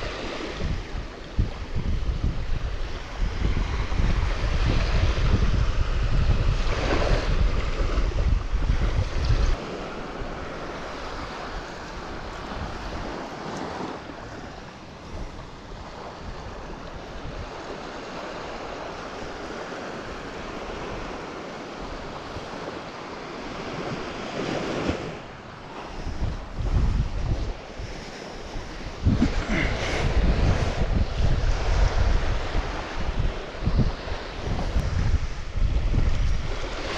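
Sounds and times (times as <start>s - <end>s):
surf washing on shore: 0.0s - 36.9s
wind blowing over microphone: 0.0s - 36.9s.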